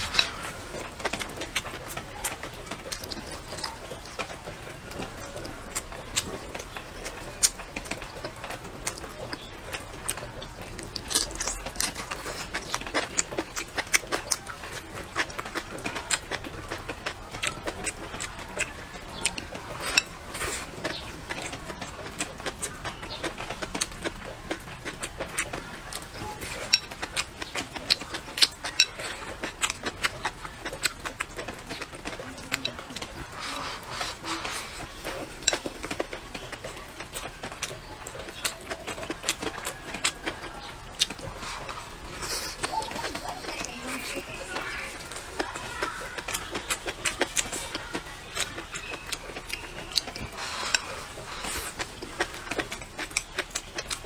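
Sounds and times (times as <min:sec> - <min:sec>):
wet chewing mouth clicks: 0:00.0 - 0:54.0.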